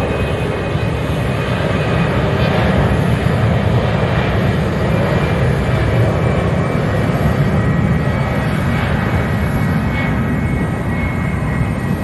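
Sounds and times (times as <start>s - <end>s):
jet engines at takeoff power: 0.0s - 12.0s.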